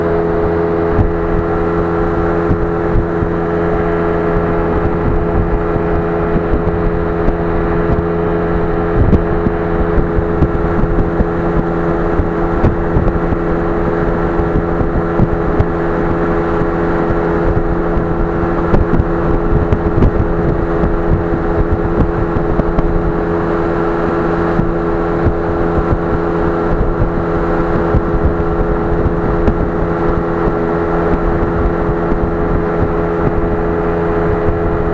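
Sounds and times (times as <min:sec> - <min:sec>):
engine running steadily: 0:00.0 - 0:34.9.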